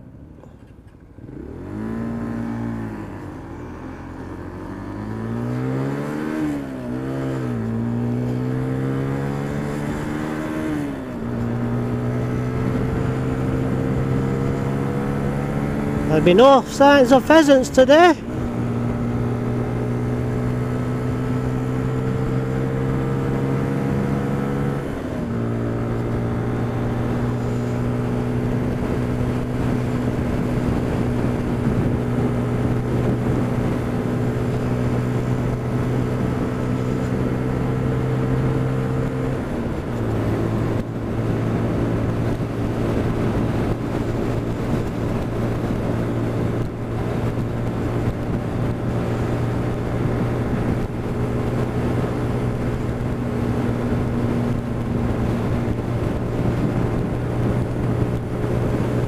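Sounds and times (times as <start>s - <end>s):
motorcycle engine cruising: 0.0s - 59.0s
wind rushing over microphone: 1.4s - 59.0s.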